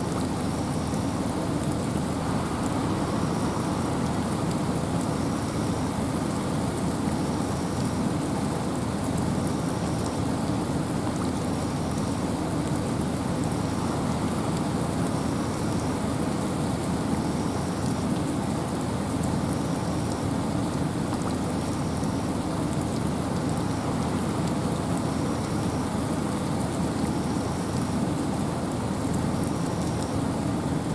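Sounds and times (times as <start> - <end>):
rain falling through forest: 0.0 - 30.9
wind: 0.0 - 30.9.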